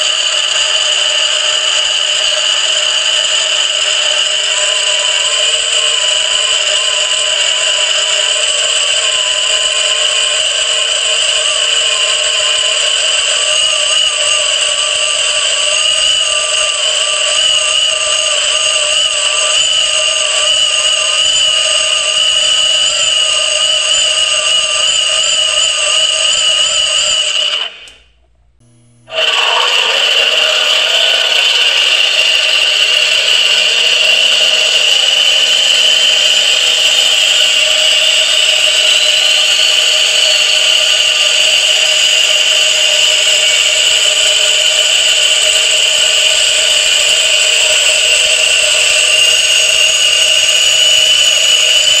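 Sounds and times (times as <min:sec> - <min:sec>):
high-pitched gear whine: 0:00.0 - 0:52.0.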